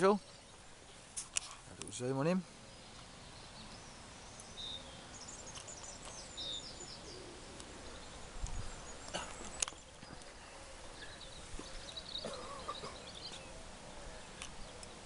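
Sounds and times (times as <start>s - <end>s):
small birds singing: 0.0s - 15.0s
steady outdoor hiss: 0.0s - 15.0s.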